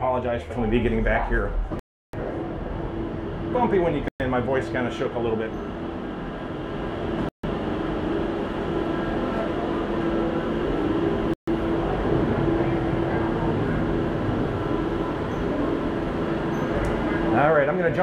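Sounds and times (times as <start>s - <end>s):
gondola cabin mechanical rumble: 0.5s - 18.0s.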